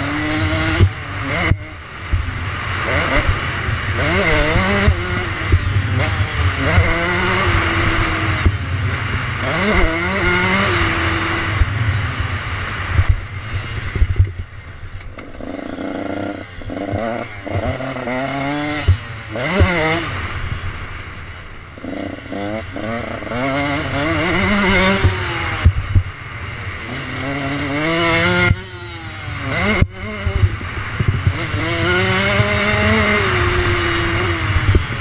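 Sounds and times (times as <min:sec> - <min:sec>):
dirt bike engine revving: 0:00.0 - 0:35.0
wind rushing over microphone: 0:00.0 - 0:35.0.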